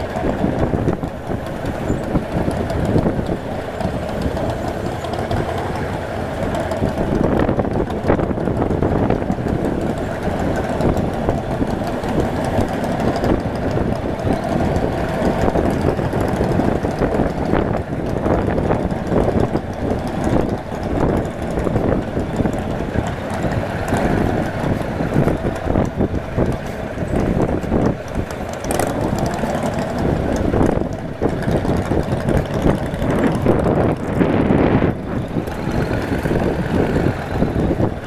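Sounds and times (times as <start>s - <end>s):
motorcycle engine running: 0.0s - 38.0s
wind buffeting microphone: 0.0s - 38.0s.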